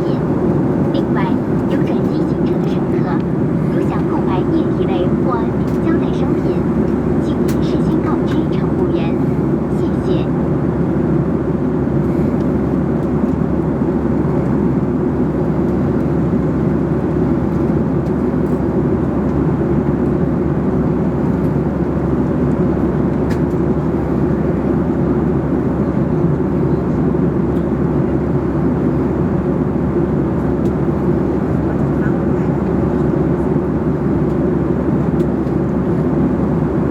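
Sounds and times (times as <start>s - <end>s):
airliner cabin noise: 0.0s - 36.9s.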